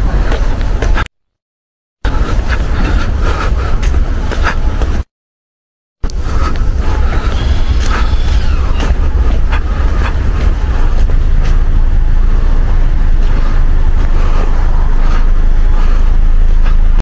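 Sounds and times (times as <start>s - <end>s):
road and wind rumble: 0.0s - 1.1s, 2.0s - 5.1s, 6.0s - 17.0s.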